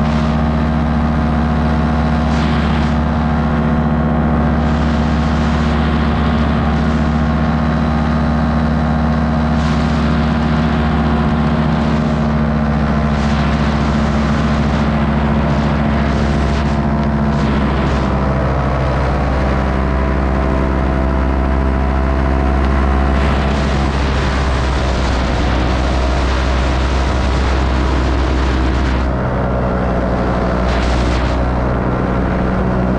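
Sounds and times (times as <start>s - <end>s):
air rushing over microphone: 0.0s - 32.9s
electric motors and propellers droning: 0.0s - 32.9s.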